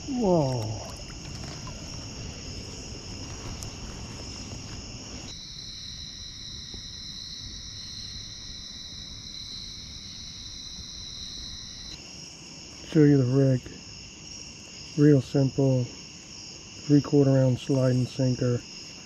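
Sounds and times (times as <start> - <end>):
high steady insect note: 0.0 - 19.0
night insects trilling: 0.0 - 19.0.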